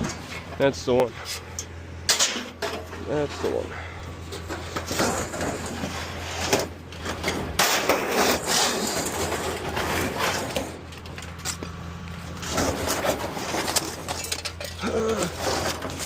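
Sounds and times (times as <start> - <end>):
scrap metal knocks and scraping: 0.0 - 16.0.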